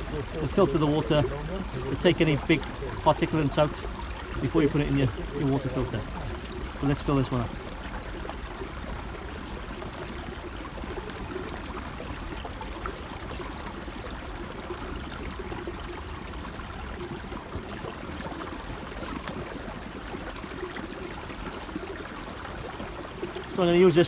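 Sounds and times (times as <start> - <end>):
stream running: 0.0 - 24.0
water gurgling into filter bag: 0.0 - 24.0.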